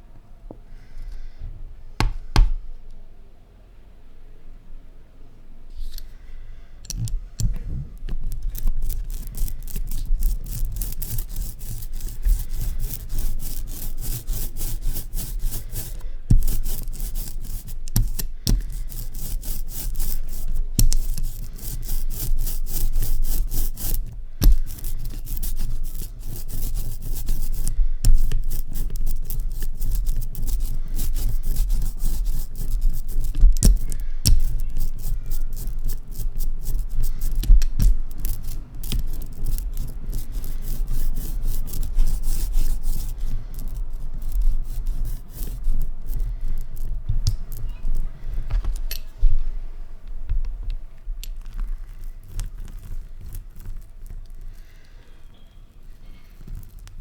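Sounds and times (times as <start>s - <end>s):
hand tool rubbing a print block: 6.9s - 49.4s, 50.2s - 57.0s.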